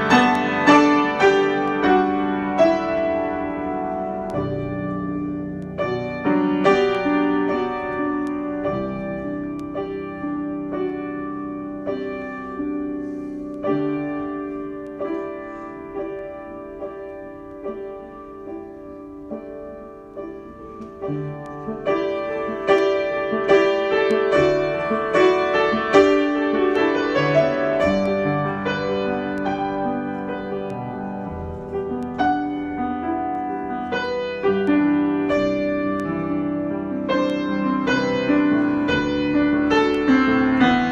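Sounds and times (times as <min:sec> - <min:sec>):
solo piano improvisation: 0:00.0 - 0:40.9.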